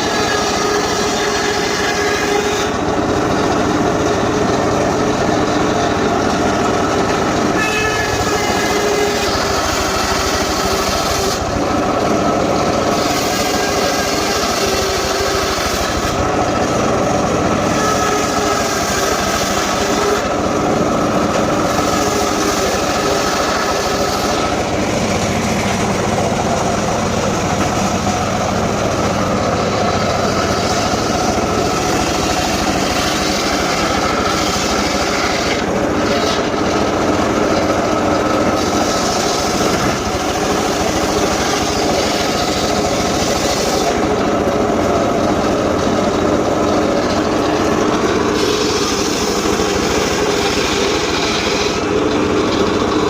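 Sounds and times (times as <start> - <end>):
chainsaw cutting timber: 0.0 - 53.0.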